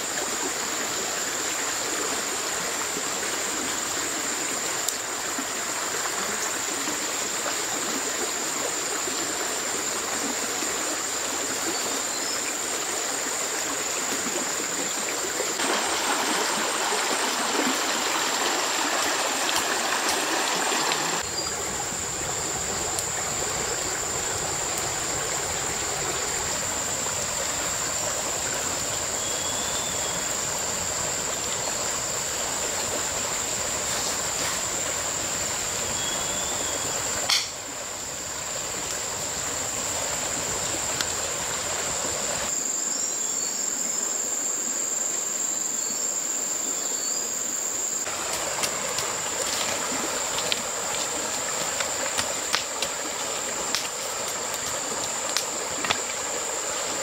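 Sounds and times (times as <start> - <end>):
stream water rushing: 0.0 - 42.8, 47.4 - 57.0.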